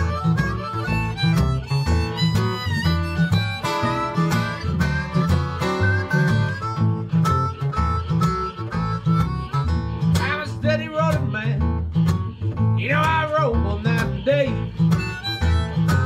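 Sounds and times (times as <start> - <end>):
fingerpicked acoustic guitar: 0.0 - 16.0
harmonica bending phrases: 0.0 - 16.0.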